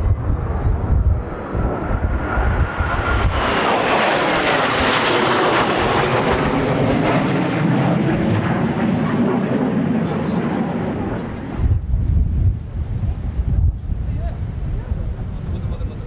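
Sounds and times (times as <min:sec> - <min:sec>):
wind buffeting microphone: 0:00.0 - 0:09.4, 0:10.0 - 0:16.0
jet engine passing close: 0:00.0 - 0:16.0.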